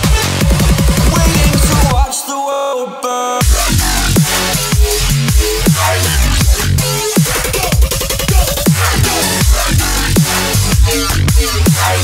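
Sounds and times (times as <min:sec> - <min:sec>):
electronic music with heavy kick: 0:00.0 - 0:02.3, 0:03.4 - 0:12.0.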